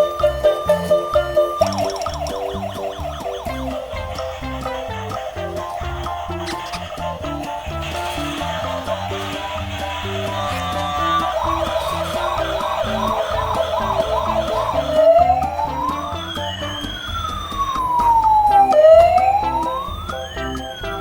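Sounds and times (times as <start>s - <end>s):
toy siren warbling and wailing: 0.0s - 21.0s.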